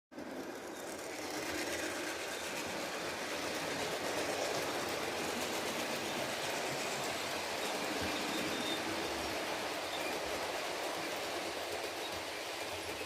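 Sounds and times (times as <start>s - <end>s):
model steam locomotive sounds: 0.1s - 13.0s
model train rumbling on track: 0.1s - 13.0s.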